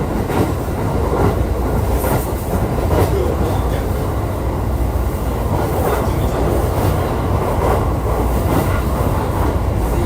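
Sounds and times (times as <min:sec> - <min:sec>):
low rumble of wheels on rail: 0:00.0 - 0:10.0.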